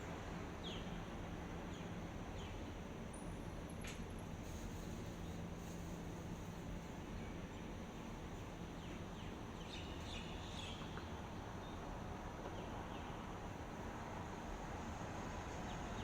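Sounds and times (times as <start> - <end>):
outdoor ambient hiss: 0.0 - 16.0.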